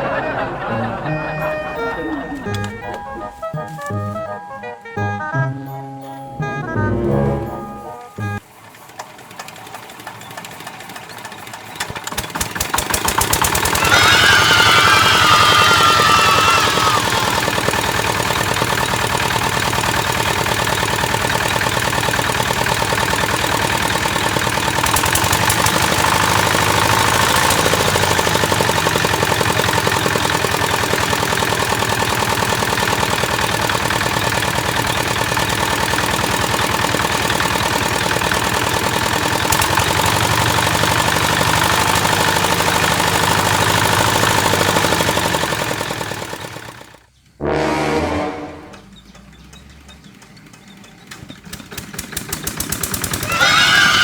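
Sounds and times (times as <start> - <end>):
tractor engine knocking: 0.0 - 5.4, 8.0 - 47.2, 48.7 - 54.0.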